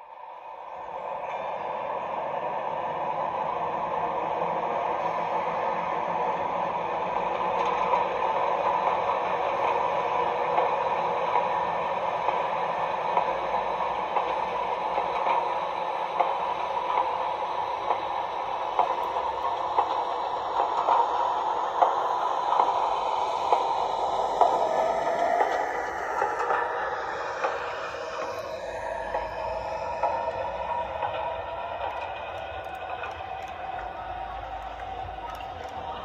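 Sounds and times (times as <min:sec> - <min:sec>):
wheels clicking on track: 0:03.5 - 0:36.0.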